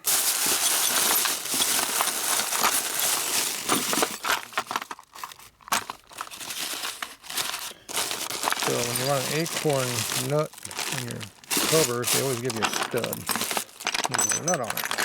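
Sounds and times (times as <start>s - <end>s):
metal parts clicking and scraping: 0.1s - 15.0s.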